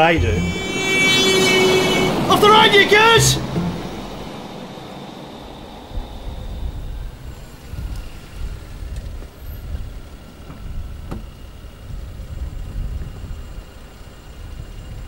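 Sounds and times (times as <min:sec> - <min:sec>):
street and car noise: 0:00.0 - 0:15.0.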